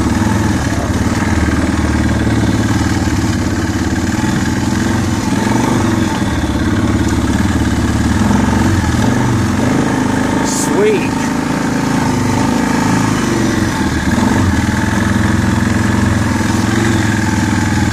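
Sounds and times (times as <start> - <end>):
atv engine running: 0.0 - 17.9.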